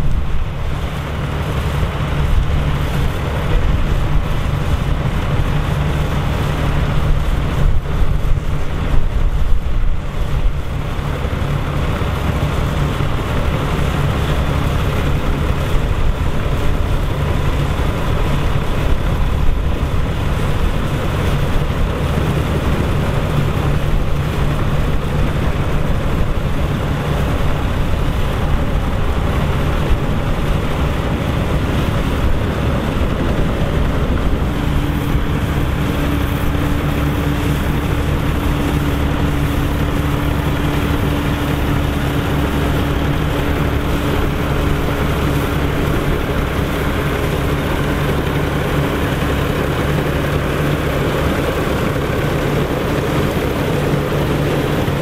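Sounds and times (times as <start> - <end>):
steady engine hum: 0.0 - 55.0
tractor diesel engine running: 0.0 - 55.0
wind buffeting microphone: 0.0 - 55.0.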